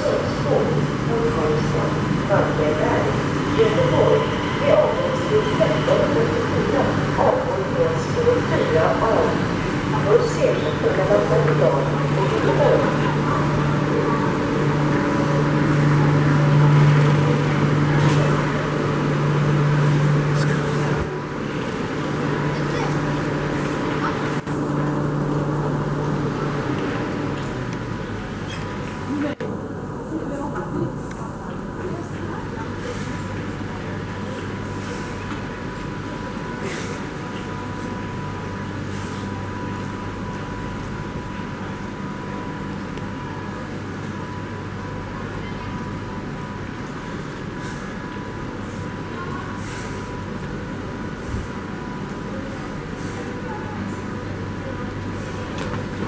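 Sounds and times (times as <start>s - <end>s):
train humming and rumbling: 0.0s - 56.0s.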